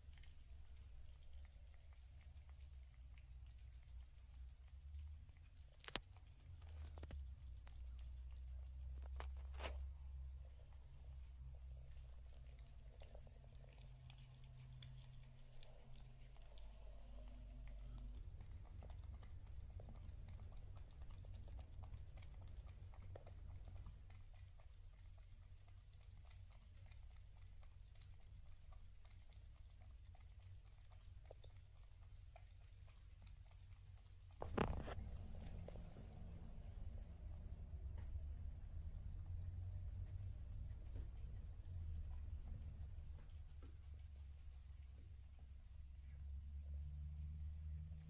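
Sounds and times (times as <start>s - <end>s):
cat chewing food: 0.0s - 48.0s
low steady hum: 0.0s - 48.0s.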